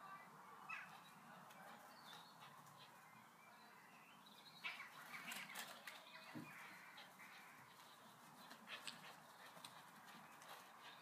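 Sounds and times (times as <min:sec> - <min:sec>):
distant bird chirps: 0:01.9 - 0:11.0.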